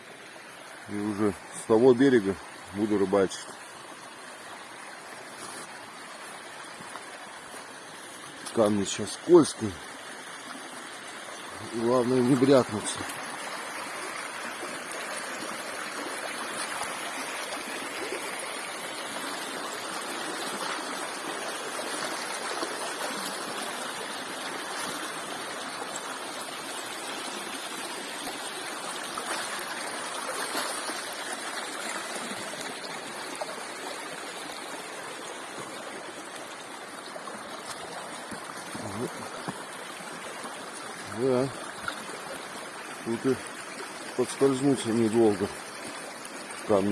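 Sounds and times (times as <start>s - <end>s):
river rushing over rocks: 0.1s - 46.9s.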